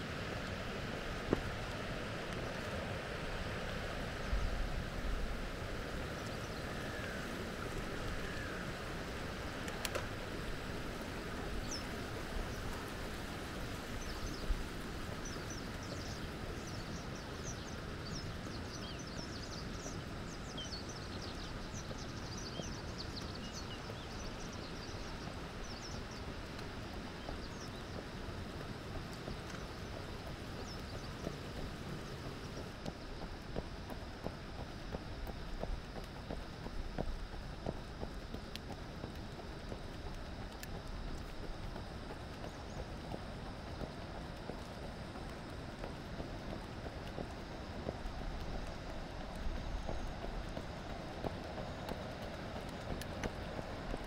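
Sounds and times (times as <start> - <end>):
small birds chirping: 2.3 - 54.0.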